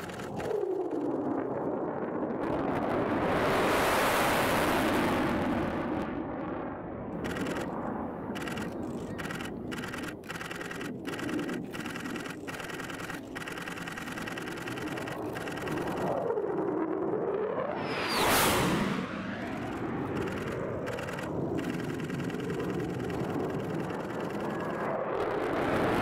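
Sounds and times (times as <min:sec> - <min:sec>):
jet roar: 0:00.0 - 0:26.0.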